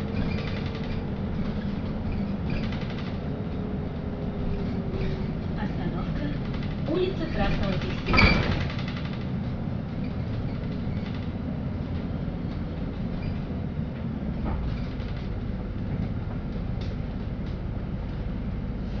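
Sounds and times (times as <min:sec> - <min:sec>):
bus engine rumble: 0:00.0 - 0:19.0
faint clicks and rattles: 0:00.1 - 0:18.4.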